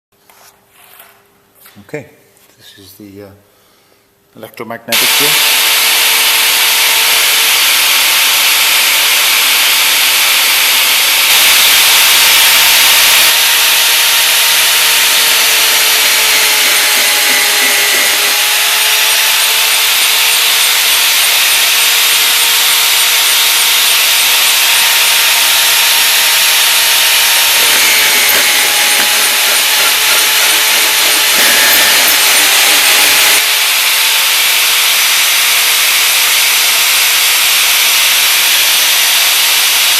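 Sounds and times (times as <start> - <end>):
drill motor whine: 4.9 - 39.9
drill rasping through metal: 4.9 - 39.9.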